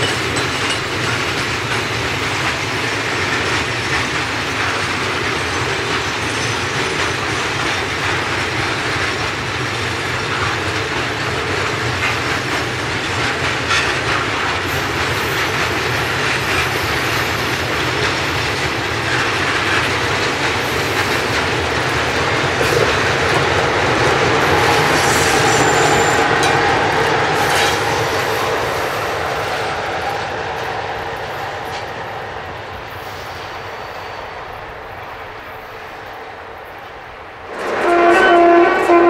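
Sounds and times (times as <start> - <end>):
freight train wheels clattering: 0.0 - 39.0.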